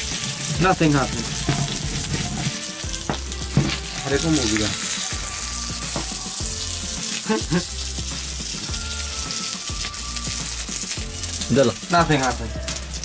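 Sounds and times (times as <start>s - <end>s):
hot knife sizzling on corn: 0.0s - 13.0s
music with pulsing beat: 0.0s - 13.0s.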